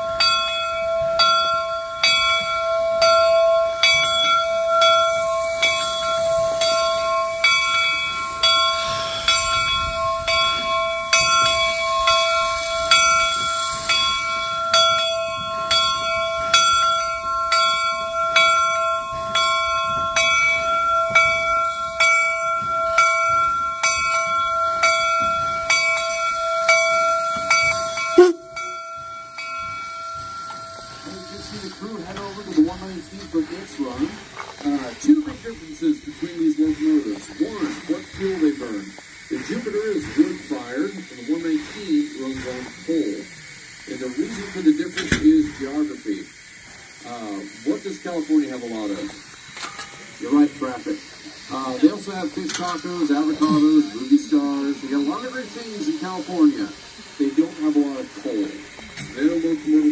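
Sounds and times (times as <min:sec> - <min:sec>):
steam hiss: 0:00.0 - 0:59.9
steam locomotive bell ringing: 0:00.0 - 0:59.9.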